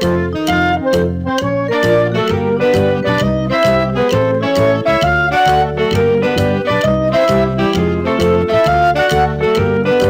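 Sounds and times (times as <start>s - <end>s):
upbeat keyboard music: 0.0s - 10.0s.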